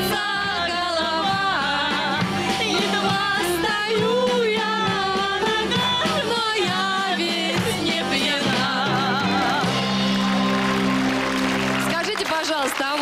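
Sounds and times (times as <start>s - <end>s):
live band playing upbeat song: 0.0s - 13.0s.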